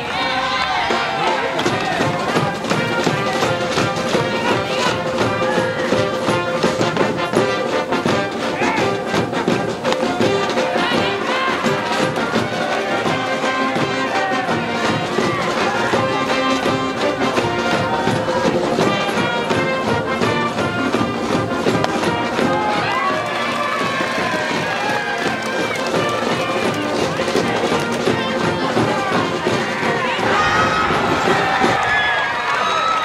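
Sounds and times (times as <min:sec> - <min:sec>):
brass band playing: 0:00.0 - 0:32.6
drums: 0:00.0 - 0:33.0.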